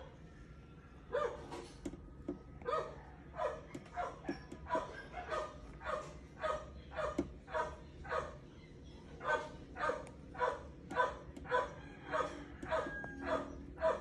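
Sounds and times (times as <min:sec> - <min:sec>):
dog barking: 0:01.1 - 0:01.6, 0:02.6 - 0:08.5, 0:09.2 - 0:14.0.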